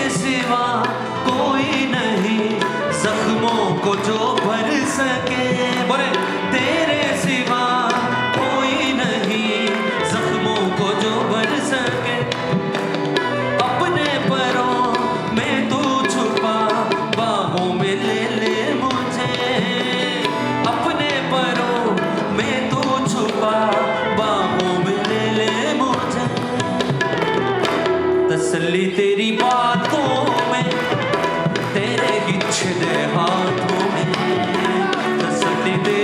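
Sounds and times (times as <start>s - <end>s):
steady drum percussion: 0.0s - 28.2s, 29.4s - 36.0s
wavering melodic lead: 0.0s - 36.0s.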